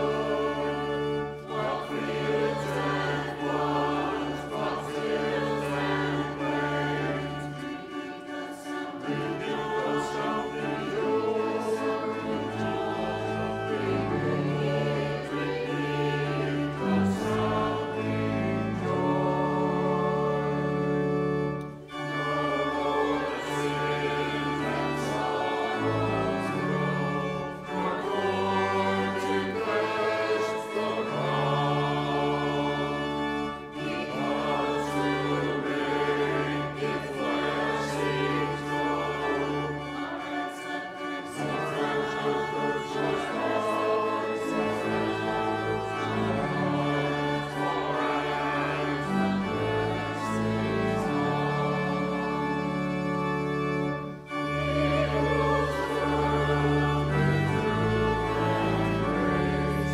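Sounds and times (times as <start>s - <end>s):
congregation and choir singing hymn: 0.0s - 59.9s
organ: 0.0s - 59.9s.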